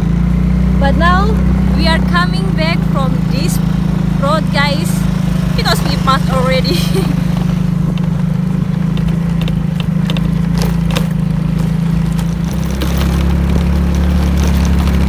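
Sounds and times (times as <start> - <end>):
low road rumble: 0.0 - 15.0
motor scooter engine: 0.0 - 15.0.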